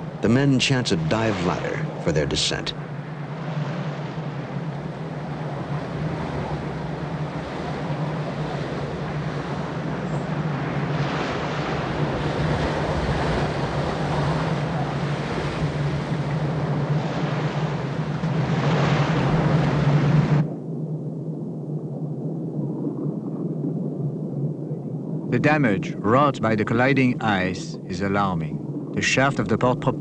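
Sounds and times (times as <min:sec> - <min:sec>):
rough seawater surging: 0:00.0 - 0:20.5, 0:25.2 - 0:30.0
steady low hum: 0:00.0 - 0:30.0
wind: 0:00.0 - 0:30.0.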